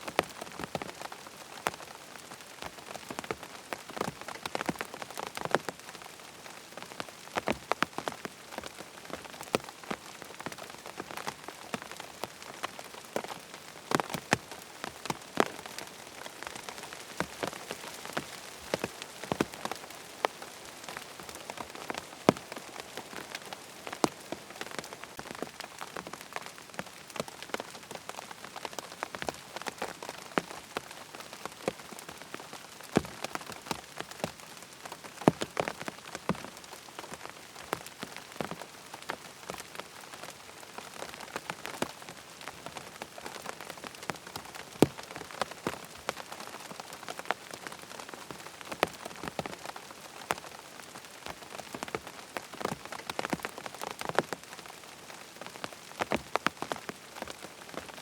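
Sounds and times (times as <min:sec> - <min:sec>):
rain pattering on a tent: 0:00.0 - 0:58.0.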